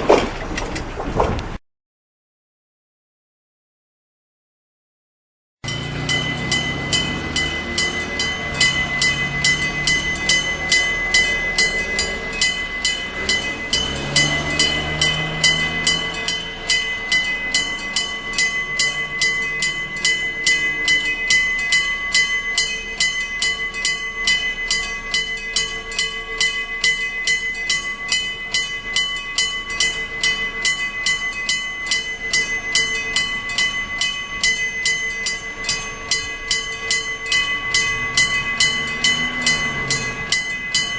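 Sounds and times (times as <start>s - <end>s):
level crossing bell ringing: 5.6s - 40.9s
train motor passing: 5.7s - 40.9s.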